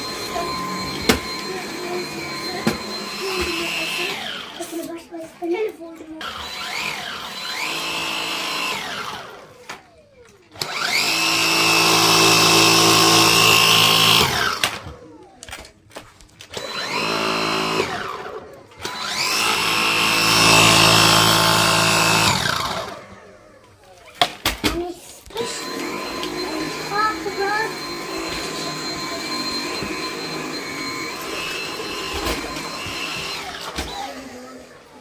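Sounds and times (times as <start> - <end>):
vacuum cleaner motor whine: 0.0 - 5.2, 6.2 - 24.2, 25.2 - 35.0.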